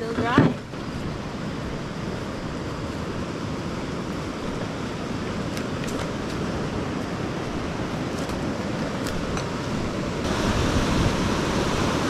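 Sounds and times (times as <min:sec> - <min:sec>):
whitewater rapids rushing: 0:00.8 - 0:12.0.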